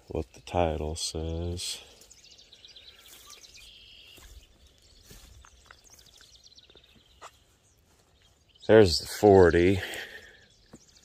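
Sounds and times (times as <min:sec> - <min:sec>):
faint bird chirps: 0:00.1 - 0:11.0.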